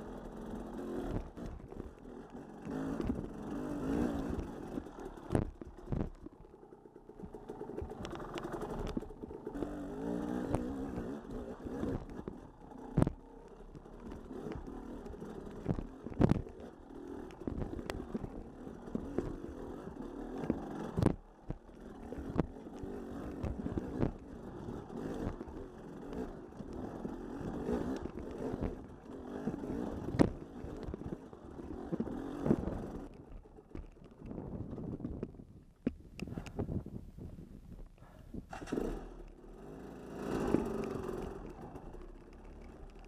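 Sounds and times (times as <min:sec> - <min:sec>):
off-road vehicle engine rumble: 0:00.0 - 0:43.0.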